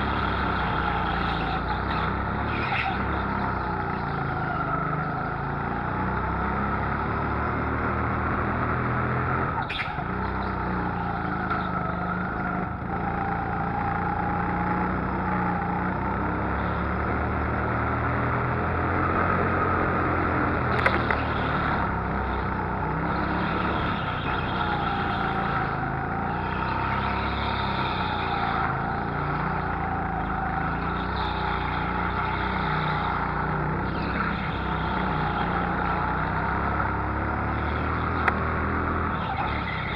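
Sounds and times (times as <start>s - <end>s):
go-kart engine at speed: 0.0s - 39.9s.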